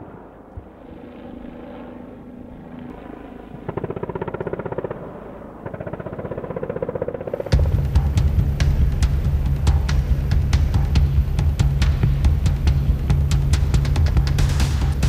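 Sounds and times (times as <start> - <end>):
helicopter engine drone: 0.0 - 15.0
helicopter rotor blades beating: 0.0 - 15.0.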